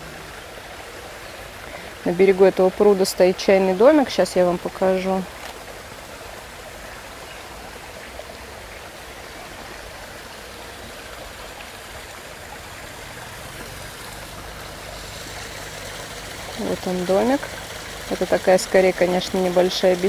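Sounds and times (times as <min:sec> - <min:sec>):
water trickling over stones: 0:00.0 - 0:20.0.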